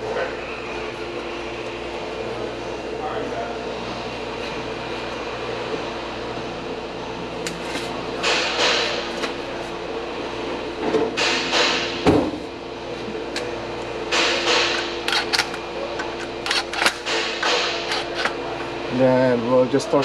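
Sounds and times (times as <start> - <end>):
workshop hum: 0.0 - 20.0.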